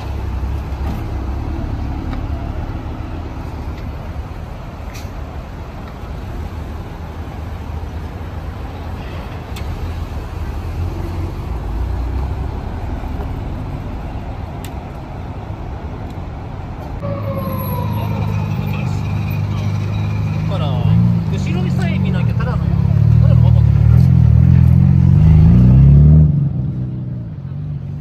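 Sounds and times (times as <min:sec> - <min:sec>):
car engine and exhaust rumble: 0:00.0 - 0:28.0.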